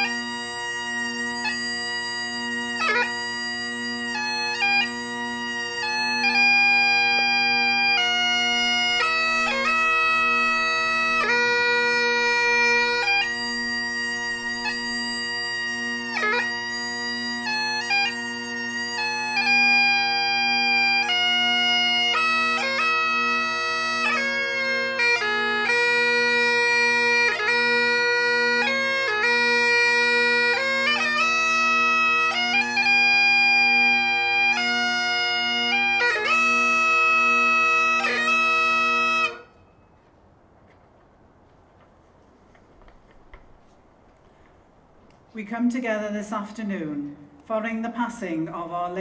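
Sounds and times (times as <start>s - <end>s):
bagpipes playing a lament: 0.0s - 40.1s.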